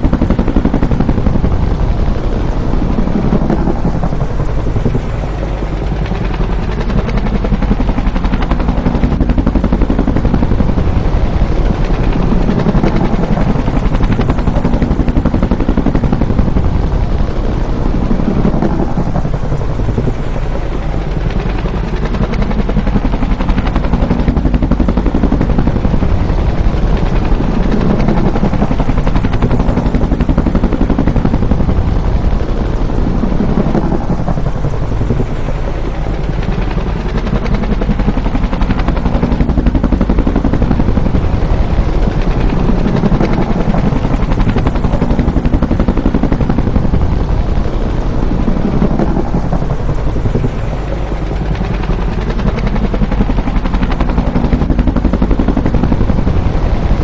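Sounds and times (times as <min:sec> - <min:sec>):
helicopter rotor blades beating: 0:00.0 - 0:57.0.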